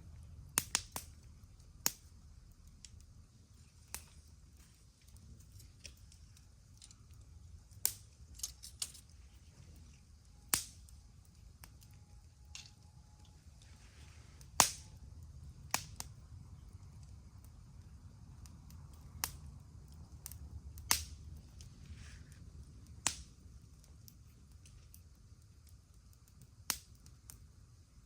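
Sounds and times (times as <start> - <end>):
campfire wood crackling: 0.0 - 28.0
low steady rumble: 0.0 - 28.0.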